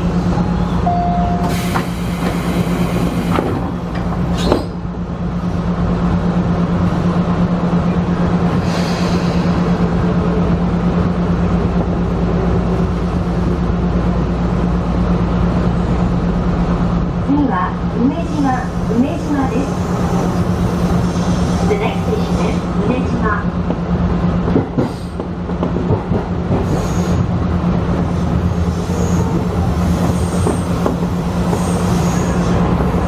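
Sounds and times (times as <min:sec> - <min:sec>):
electric train humming: 0:00.0 - 0:33.0.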